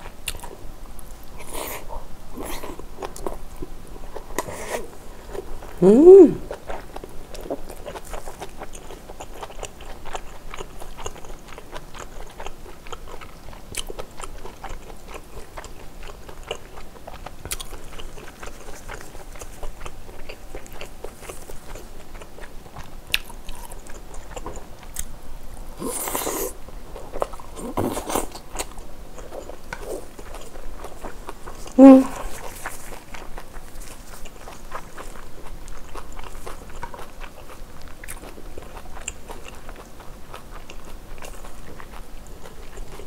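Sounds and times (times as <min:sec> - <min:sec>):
close chewing with wet mouth clicks: 0:06.5 - 0:25.1, 0:25.8 - 0:43.0.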